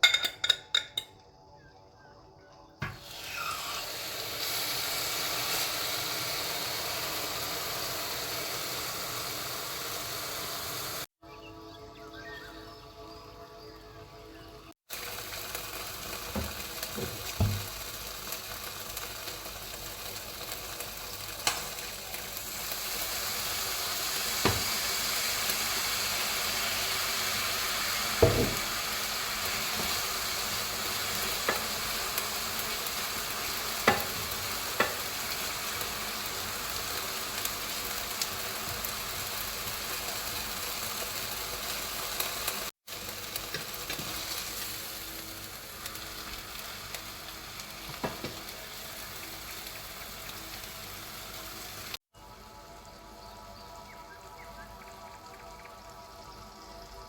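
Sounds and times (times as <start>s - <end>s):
food sizzling in a frying pan: 2.8s - 11.2s, 14.7s - 52.1s.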